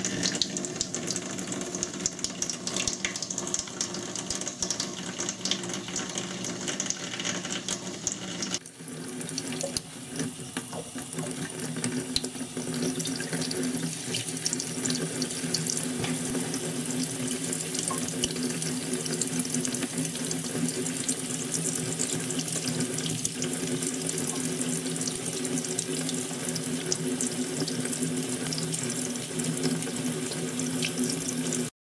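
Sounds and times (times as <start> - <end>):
tap water running into sink: 0.0 - 31.7.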